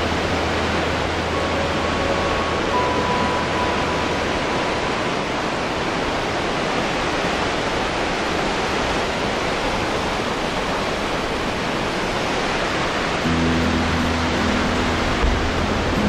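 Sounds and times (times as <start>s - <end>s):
ocean surf on sand: 0.0s - 16.0s.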